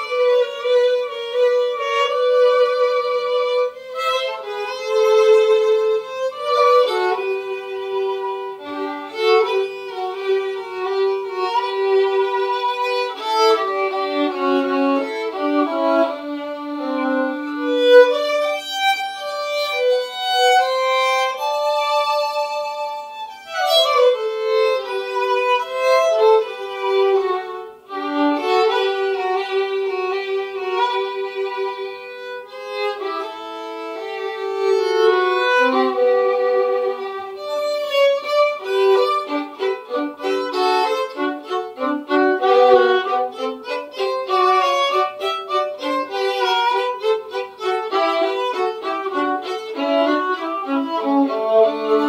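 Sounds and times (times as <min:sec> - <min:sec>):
violin duet: 0:00.0 - 0:52.0.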